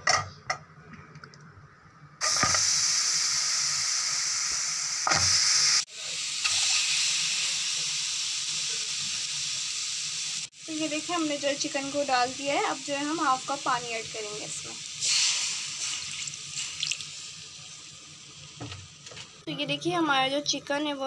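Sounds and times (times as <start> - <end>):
chicken sizzling in a pan: 2.2 - 19.5.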